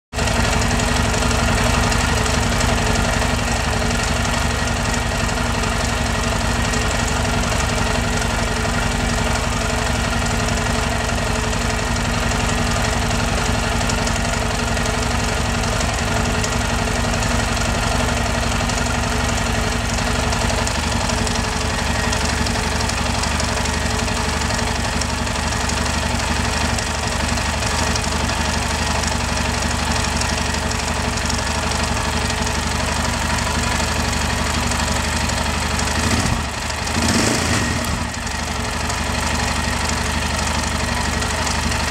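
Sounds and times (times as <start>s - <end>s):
motorcycle engine idling: 0.1s - 41.9s
strange noise inside engine: 0.1s - 41.9s.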